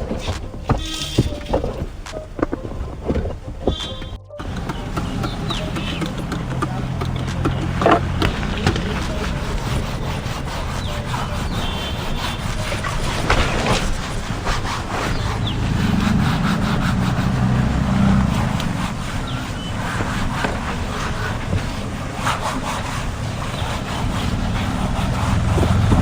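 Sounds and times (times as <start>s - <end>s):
scrubbing strokes: 0.0s - 26.0s.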